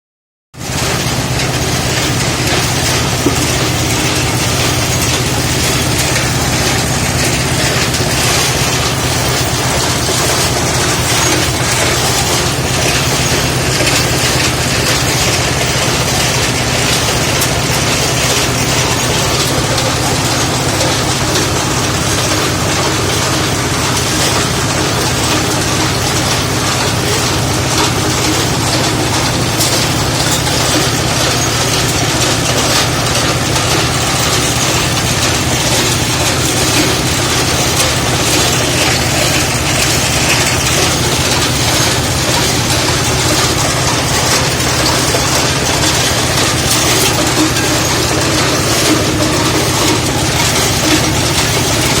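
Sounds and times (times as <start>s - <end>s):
motor-driven machine rattling: 0.6s - 52.0s.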